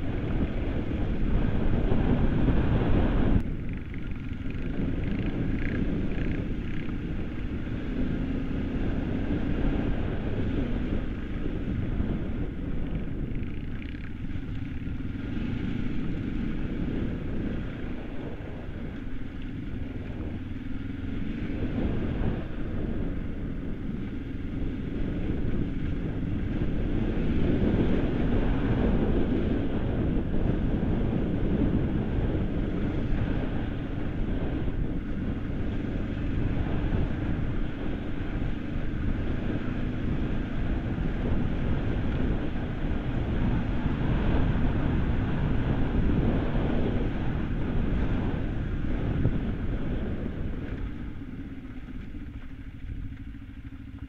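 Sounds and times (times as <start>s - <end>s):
motorcycle engine riding: 0.0s - 54.0s
wind noise on microphone: 0.0s - 54.0s.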